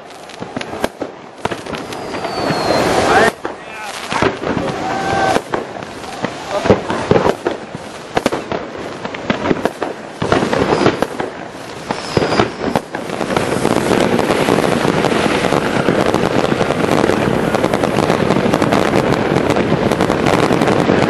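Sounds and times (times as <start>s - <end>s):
firecrackers banging and crackling: 0.0s - 21.0s.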